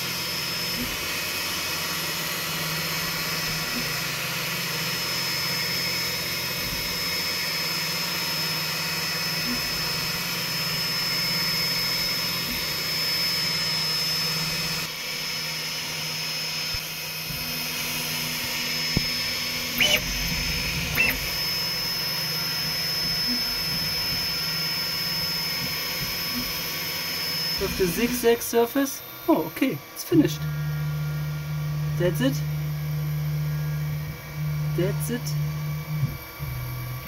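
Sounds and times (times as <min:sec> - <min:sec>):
three d printer running: 0:00.0 - 0:37.0.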